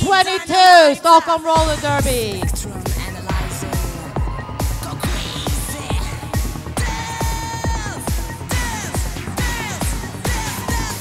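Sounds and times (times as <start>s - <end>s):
electronic dance music: 0.0s - 11.0s
fast kick drum beat: 1.5s - 11.0s.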